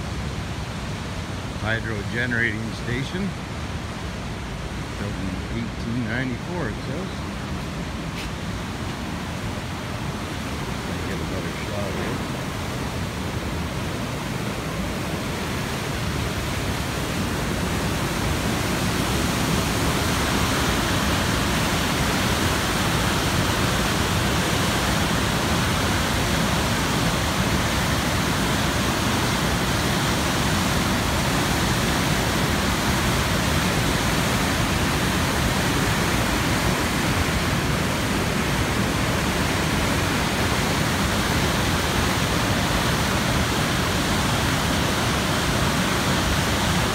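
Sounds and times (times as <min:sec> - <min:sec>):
floodwater rushing over falls: 0:00.0 - 0:46.9.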